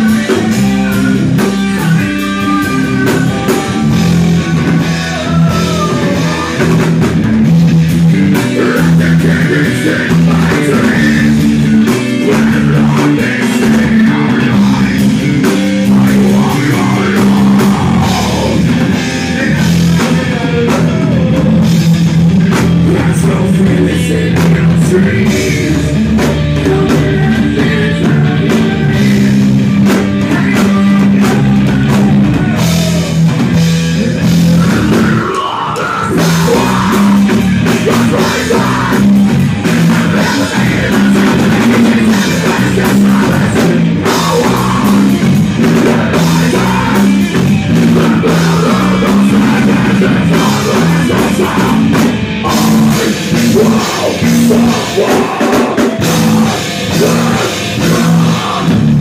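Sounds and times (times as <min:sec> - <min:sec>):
distorted electric guitar: 0:00.0 - 0:59.0
drum kit: 0:00.0 - 0:59.0
person singing into a microphone: 0:00.0 - 0:59.0.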